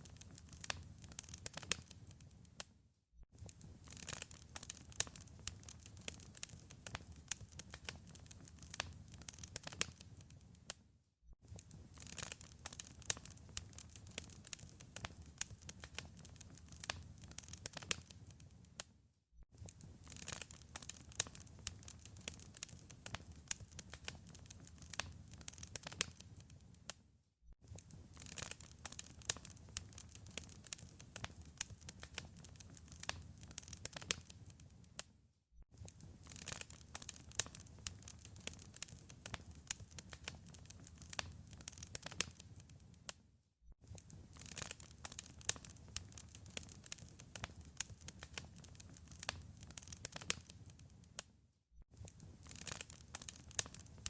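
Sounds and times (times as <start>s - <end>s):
wood fire crackling: 0.0s - 2.6s, 3.4s - 10.7s, 11.5s - 18.9s, 19.6s - 26.9s, 27.7s - 35.1s, 35.8s - 43.2s, 43.8s - 51.3s, 51.9s - 54.0s.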